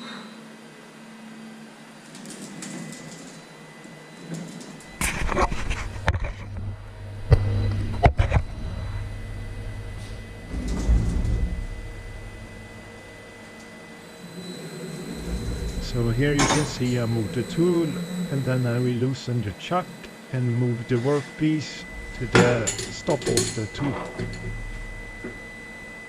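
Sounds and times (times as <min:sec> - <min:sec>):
lathe machinery humming: 0:02.8 - 0:26.0.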